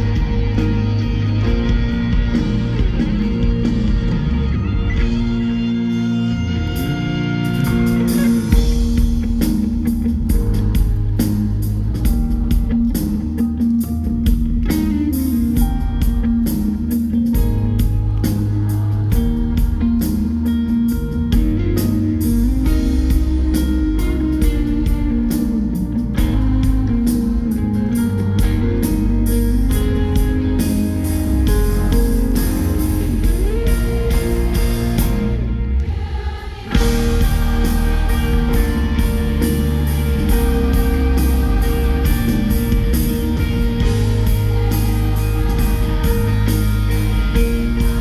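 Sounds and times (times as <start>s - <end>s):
steady drum beat: 0.0s - 5.7s, 7.6s - 48.0s
live pop-rock band: 0.0s - 48.0s.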